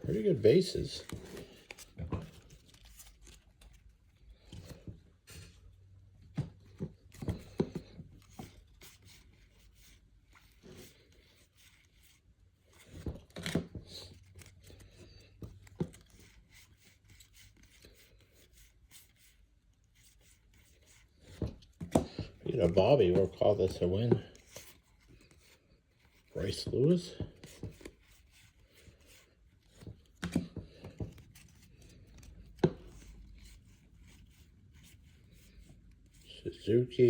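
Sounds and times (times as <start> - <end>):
cards being flipped through: 0.3 - 5.6, 6.4 - 36.2.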